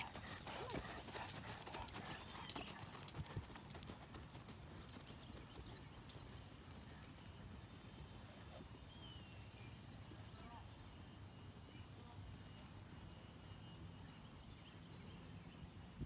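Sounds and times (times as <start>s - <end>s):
horse hoofbeats on dirt: 0.0s - 14.6s.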